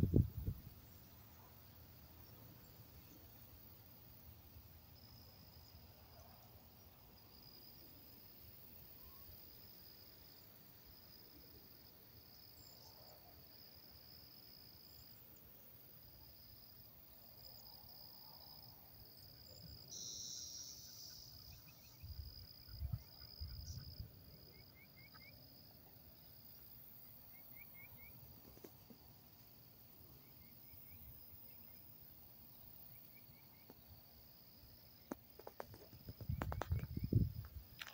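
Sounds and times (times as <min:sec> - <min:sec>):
insects trilling: 0:00.1 - 0:37.9.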